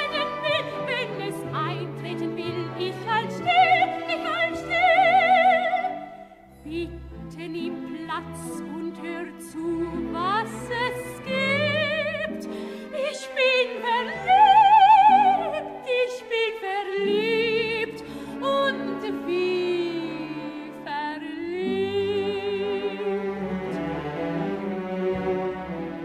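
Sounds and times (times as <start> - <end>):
operetta singing with vibrato: 0.0 - 23.3
orchestral accompaniment: 0.0 - 26.0.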